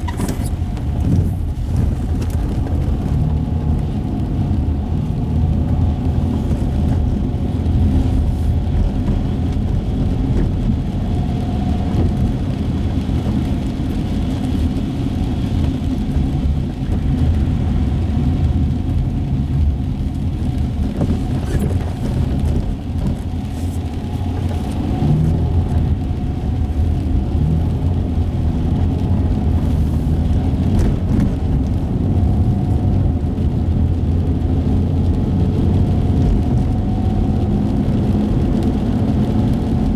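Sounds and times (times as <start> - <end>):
car engine rumble: 0.0 - 39.9
tyres on wet road: 0.0 - 39.9.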